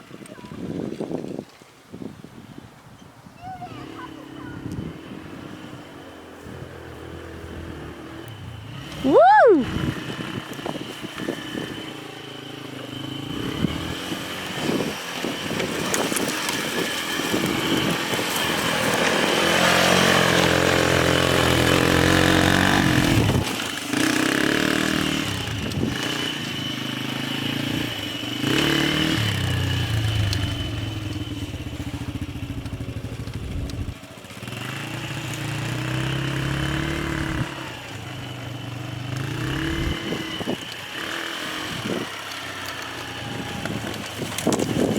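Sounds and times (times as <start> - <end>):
quad engine revving: 3.7 - 44.9.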